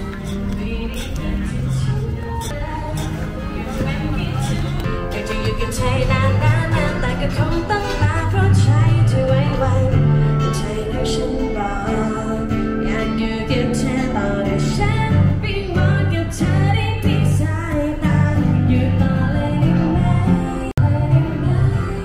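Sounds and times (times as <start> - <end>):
steady bass: 0.0 - 12.8, 13.5 - 22.0
plucked guitar: 0.0 - 22.0
woman singing: 0.0 - 22.0.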